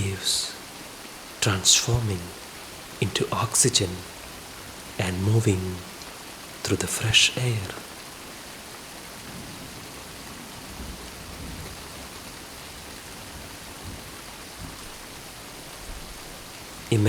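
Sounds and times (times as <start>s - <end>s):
gentle rain: 0.0s - 17.0s.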